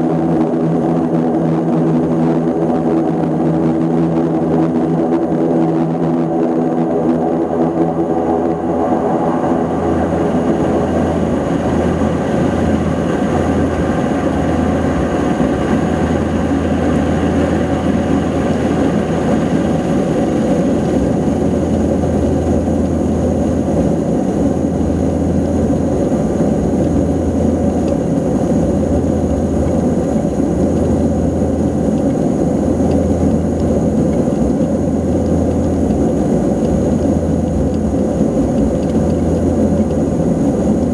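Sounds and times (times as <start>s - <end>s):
turboprop propeller drone: 0.0s - 40.9s.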